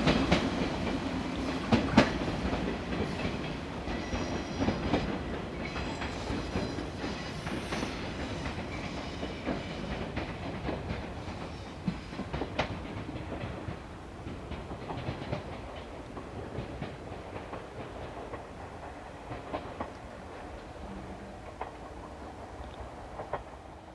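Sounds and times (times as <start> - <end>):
electric train rumbling: 0.0 - 23.9.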